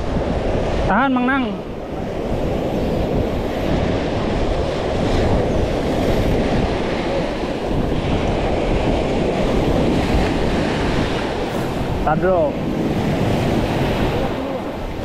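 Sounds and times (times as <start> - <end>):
surf washing on sand: 0.0 - 15.0
wind rumbling on microphone: 0.0 - 15.0.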